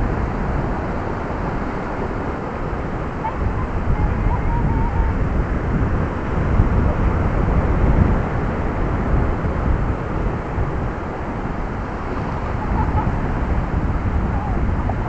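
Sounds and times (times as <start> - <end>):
small waves washing in: 0.0 - 15.0
wind buffeting microphone: 0.0 - 15.0.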